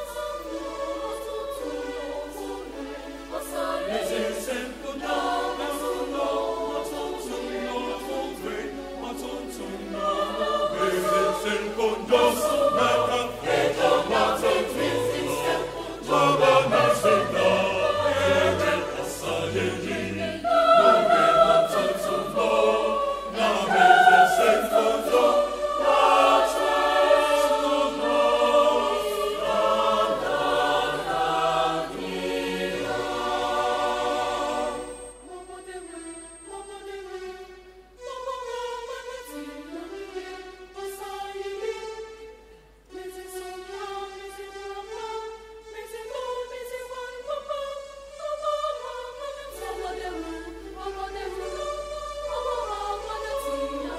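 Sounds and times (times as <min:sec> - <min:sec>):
mixed choir singing in harmony: 0:00.0 - 0:53.9.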